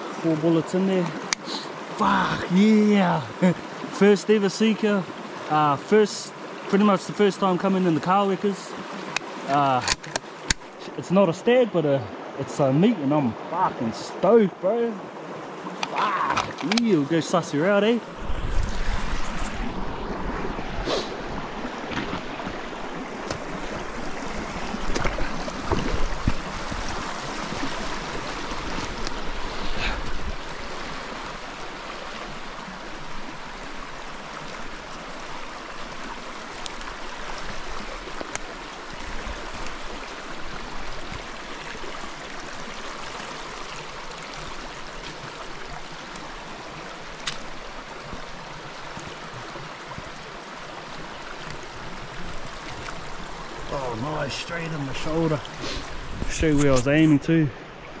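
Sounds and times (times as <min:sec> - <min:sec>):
creek water rushing over stones: 0:00.0 - 0:58.0.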